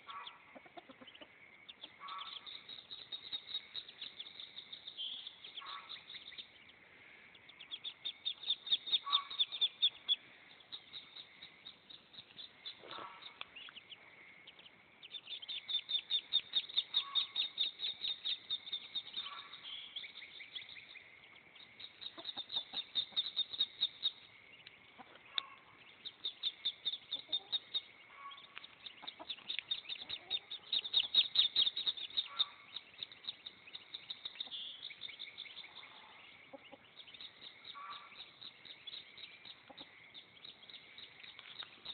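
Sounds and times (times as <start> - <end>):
ducklings peeping: 0.0 - 41.9.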